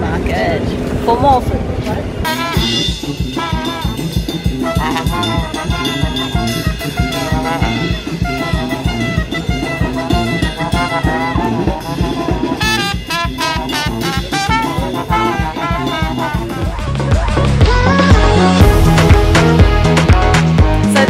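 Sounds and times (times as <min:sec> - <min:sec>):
drum kit steady beat: 0:02.2 - 0:21.0
trumpets and trombone: 0:02.2 - 0:21.0.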